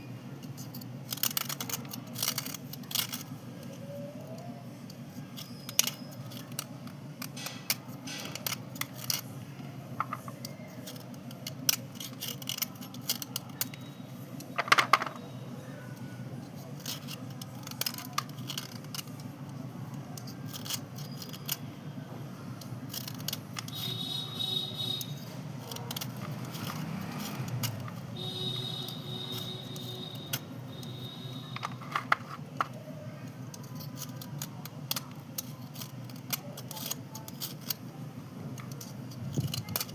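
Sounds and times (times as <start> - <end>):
chalk pieces clicking and scraping: 0.4 - 15.3, 16.4 - 39.9.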